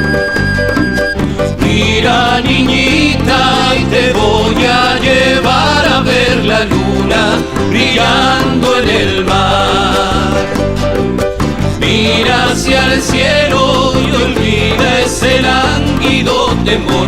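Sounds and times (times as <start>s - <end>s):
folk band playing: 0.0s - 17.0s.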